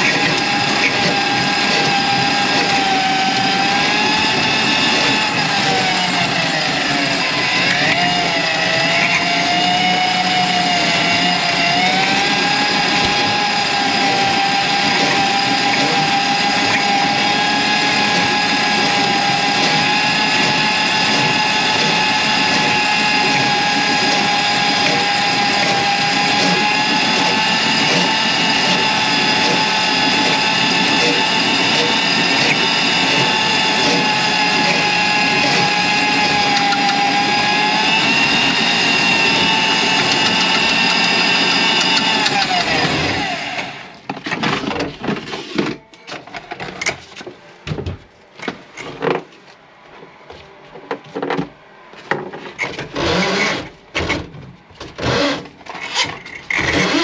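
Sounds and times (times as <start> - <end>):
electric motor whining: 0.0 - 44.0, 52.8 - 53.8, 55.0 - 57.0.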